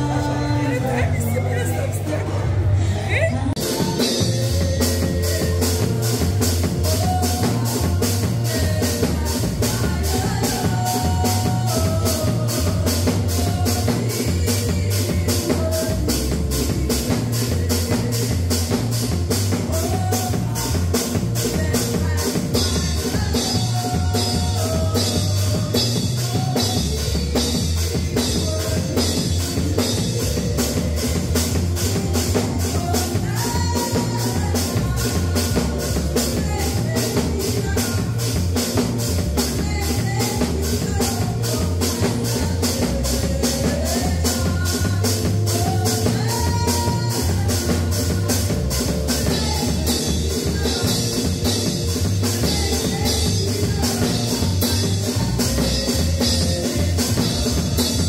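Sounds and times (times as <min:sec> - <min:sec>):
woman singing: 0:00.0 - 0:02.2, 0:02.8 - 0:58.0
bass line: 0:00.0 - 0:58.0
drum kit beat: 0:03.5 - 0:58.0.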